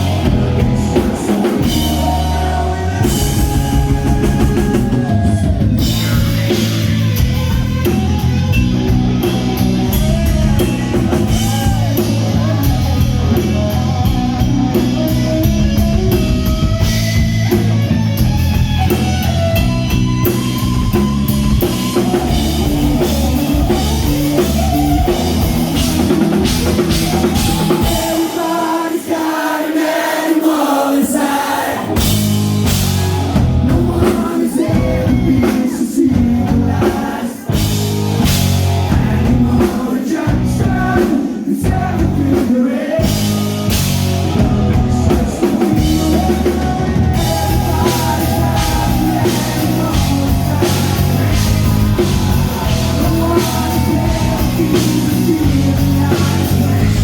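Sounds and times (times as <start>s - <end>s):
person singing: 0.0s - 15.9s, 21.5s - 57.0s
rock band playing live: 0.0s - 57.0s.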